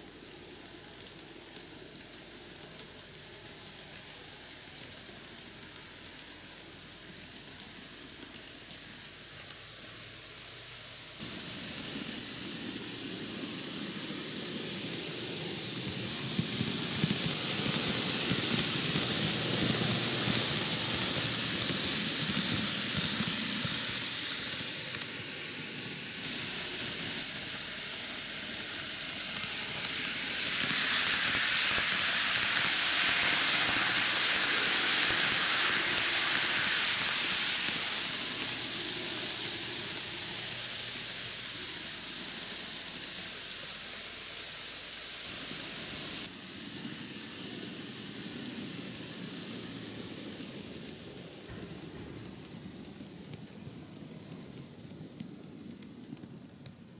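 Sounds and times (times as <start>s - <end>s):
model train rattling on rails: 0.0s - 56.9s.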